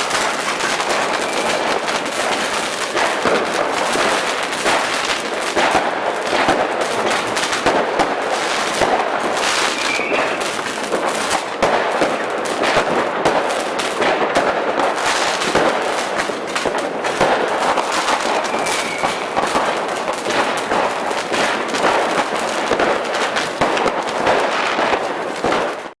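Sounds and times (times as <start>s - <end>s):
firecrackers crackling and popping: 0.0s - 26.0s.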